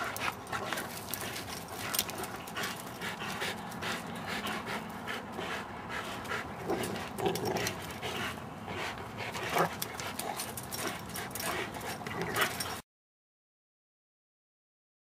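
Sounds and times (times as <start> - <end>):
dogs panting: 0.0 - 12.8.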